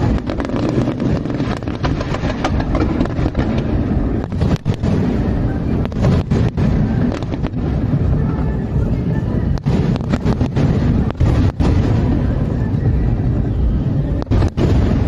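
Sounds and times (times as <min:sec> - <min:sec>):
fireworks booming: 0:00.0 - 0:15.0.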